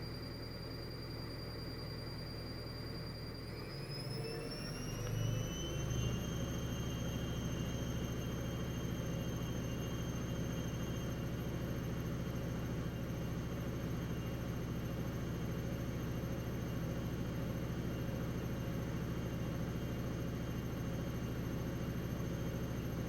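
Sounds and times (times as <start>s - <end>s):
washing machine motor whine: 0.0s - 23.0s.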